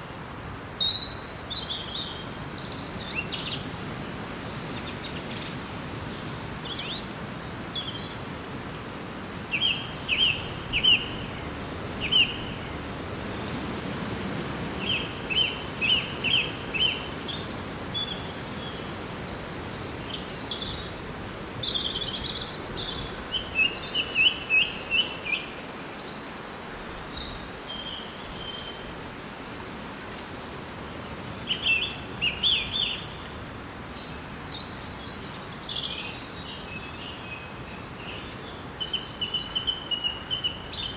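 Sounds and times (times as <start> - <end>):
hiss of leaves and air: 0.0 - 40.9
songbirds chirping: 0.0 - 40.9.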